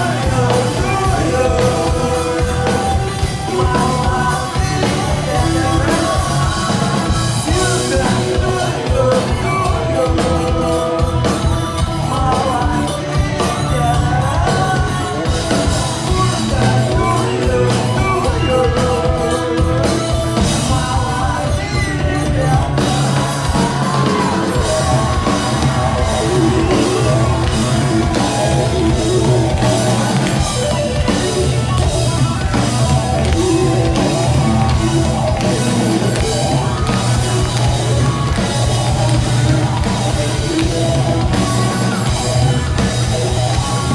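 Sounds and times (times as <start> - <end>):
live rock band playing: 0.0 - 43.9
person singing: 0.0 - 43.9.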